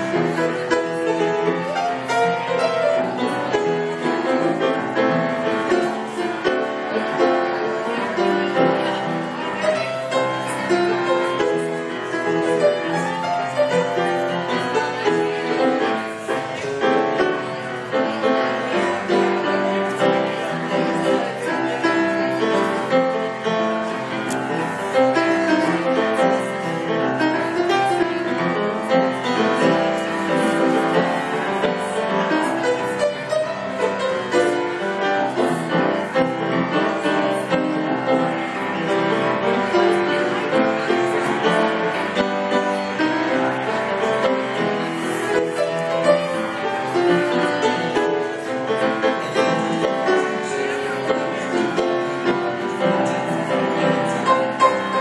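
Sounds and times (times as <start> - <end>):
grand piano playing: 0.0 - 55.0.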